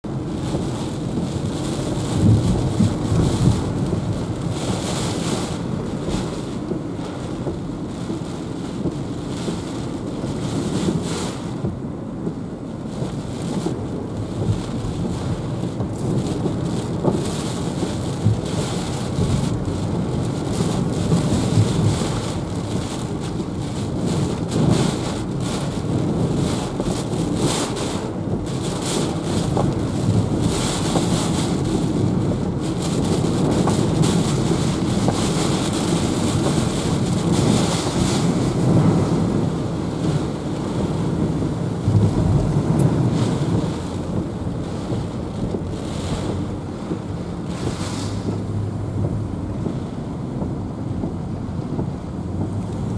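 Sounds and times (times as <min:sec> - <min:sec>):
car rumbling on flooded road: 0:00.0 - 0:52.9
gusting wind: 0:00.0 - 0:52.9
heavy rain beating on car: 0:00.0 - 0:52.9.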